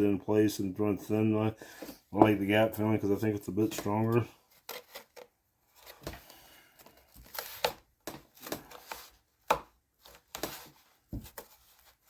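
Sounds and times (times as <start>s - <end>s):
soft handling noise: 1.6s - 12.0s.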